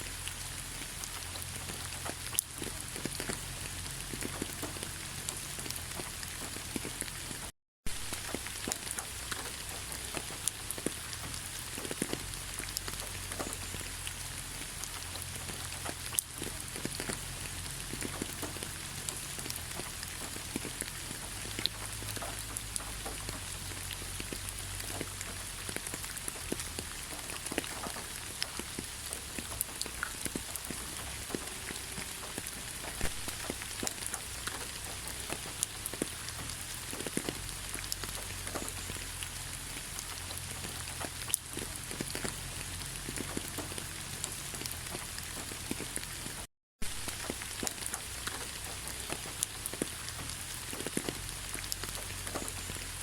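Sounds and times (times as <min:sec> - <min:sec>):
rain drops ticking: 0:00.0 - 0:53.0
rain hiss: 0:00.0 - 0:53.0.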